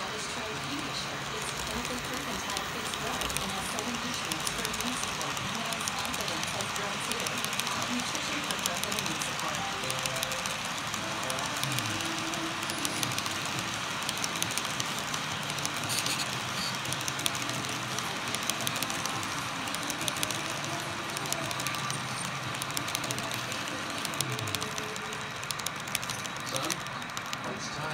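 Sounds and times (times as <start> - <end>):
model train rolling: 0.0 - 27.9.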